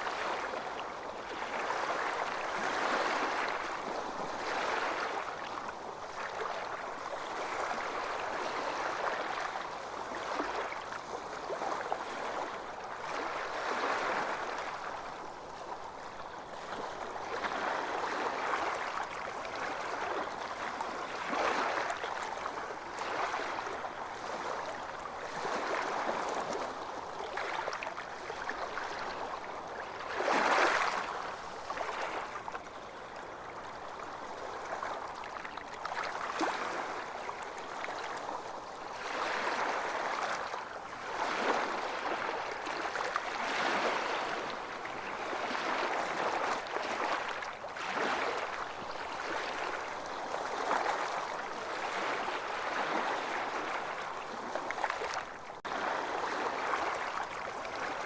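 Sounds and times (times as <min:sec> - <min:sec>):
small waves washing onto beach: 0:00.0 - 0:58.0.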